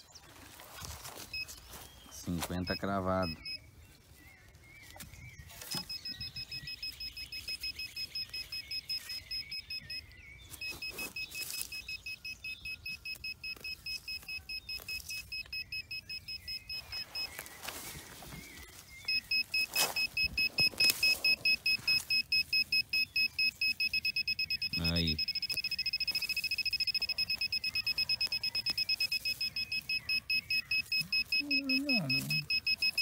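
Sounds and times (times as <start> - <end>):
metal detector pinpointer beeping: 1.2 - 3.6, 5.6 - 17.5, 18.5 - 33.0.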